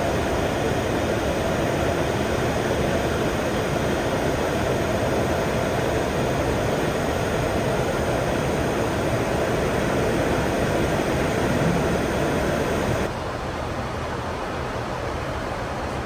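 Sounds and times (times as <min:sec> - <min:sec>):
aircraft cockpit engine and air noise: 0:00.0 - 0:13.2.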